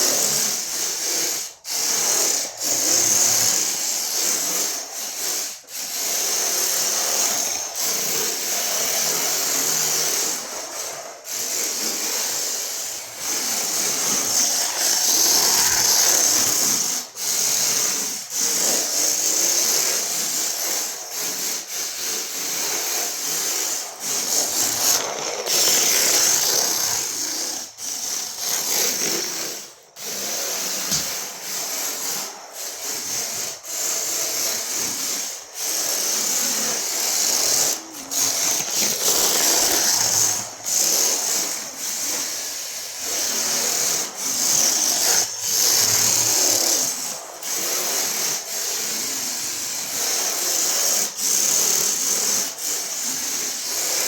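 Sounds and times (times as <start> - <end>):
rasping scraping strokes: 0.0 - 17.1, 20.7 - 50.5.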